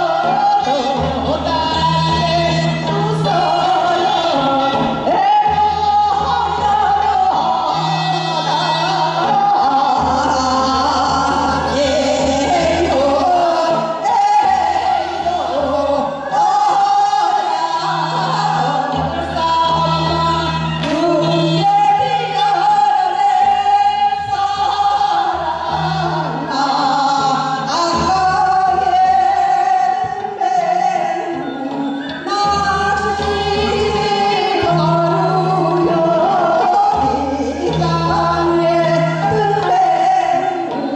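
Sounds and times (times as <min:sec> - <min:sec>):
amplified instrumental accompaniment: 0:00.0 - 0:40.9
women singing into microphones: 0:00.0 - 0:40.9.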